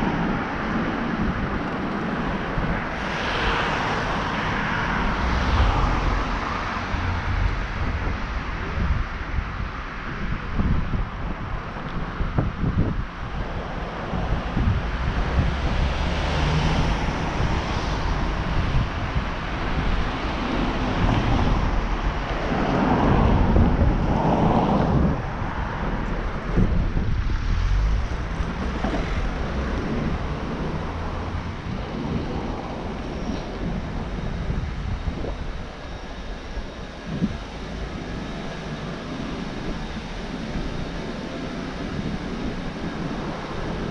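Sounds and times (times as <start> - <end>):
road traffic: 0.0 - 43.9
wind on microphone: 0.0 - 43.9.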